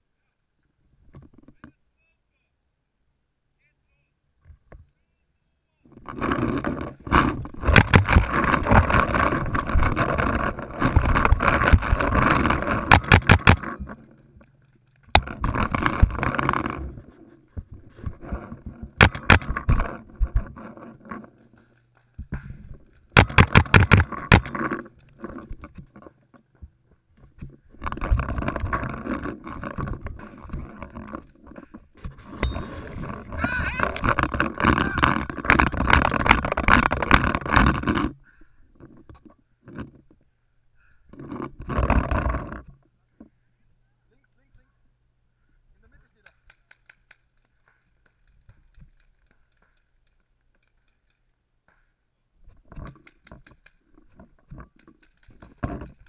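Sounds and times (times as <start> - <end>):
scraping and rustling of movement: 5.8 - 44.7, 45.8 - 56.0.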